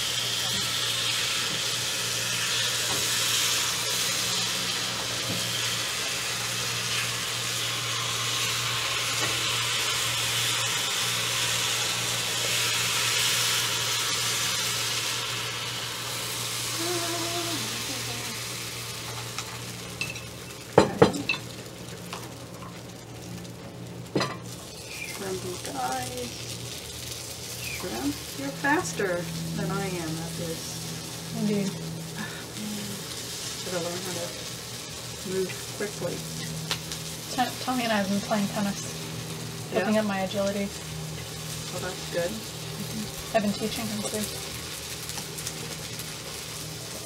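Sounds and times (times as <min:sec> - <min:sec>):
batter sizzling in hot pan: 0:00.0 - 0:47.0.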